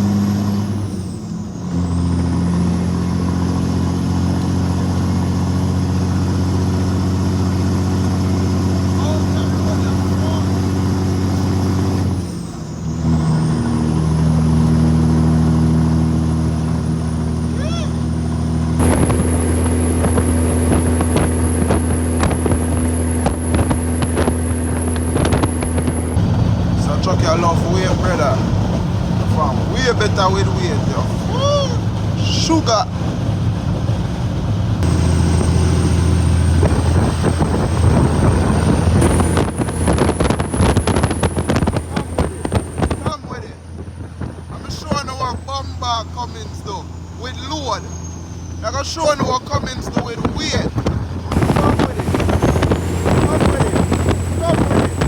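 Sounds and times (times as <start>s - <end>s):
diesel truck engine under load: 0.0s - 55.0s.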